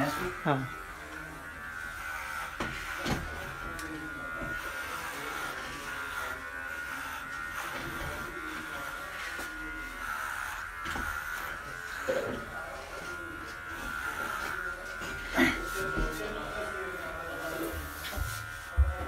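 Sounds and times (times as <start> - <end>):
electric pet clipper buzzing: 0.0 - 19.0.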